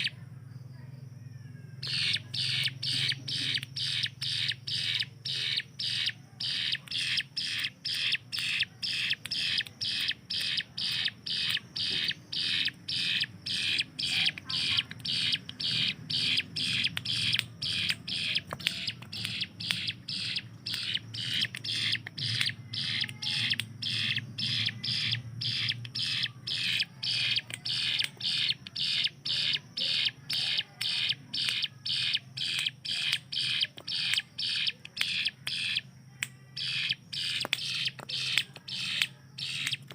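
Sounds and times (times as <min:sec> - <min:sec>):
bird calling in sharp notes: 0:00.0 - 0:00.2, 0:01.6 - 0:39.9.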